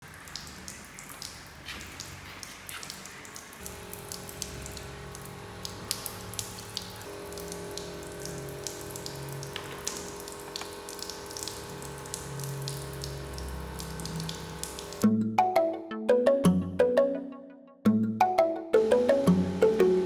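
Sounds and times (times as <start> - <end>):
water drops ticking: 0.0 - 17.1.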